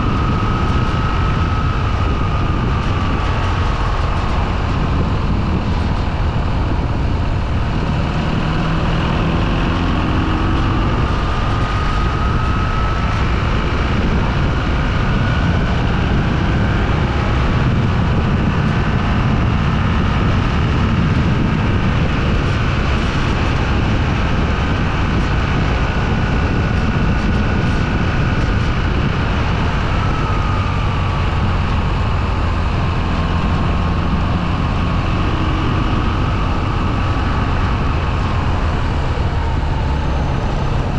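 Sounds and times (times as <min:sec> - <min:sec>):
motorcycle engine: 0:00.0 - 0:40.9
wind and road noise: 0:00.0 - 0:40.9.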